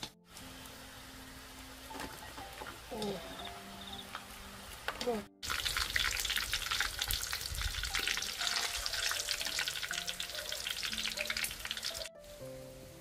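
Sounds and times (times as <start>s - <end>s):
deep-frying sizzle in oil: 0.0s - 12.8s
soft background music: 0.0s - 13.0s.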